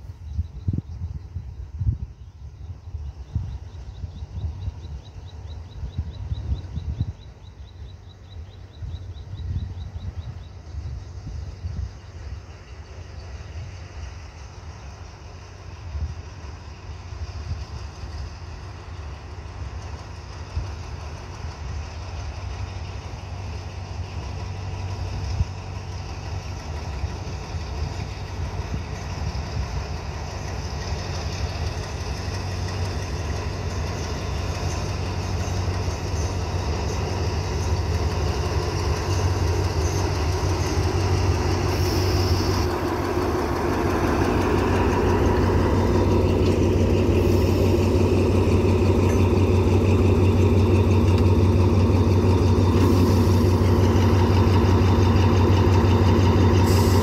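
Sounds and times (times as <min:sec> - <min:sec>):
diesel locomotive engine rumble: 0:00.0 - 0:57.0.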